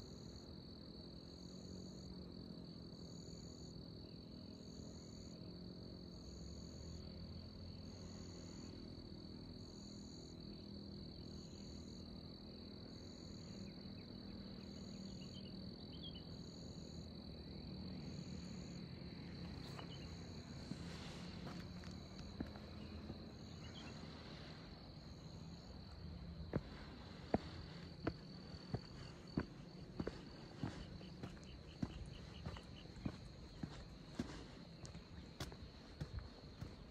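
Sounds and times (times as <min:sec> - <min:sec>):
faint low hum: 0:00.0 - 0:36.9
insect pulsed chirp: 0:00.0 - 0:36.9.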